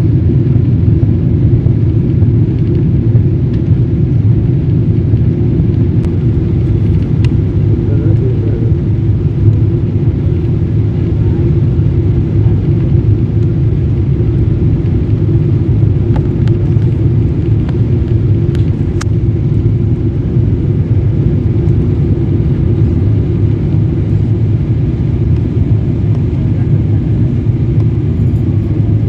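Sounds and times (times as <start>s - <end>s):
jet engine and airflow rumble: 0.0s - 29.0s.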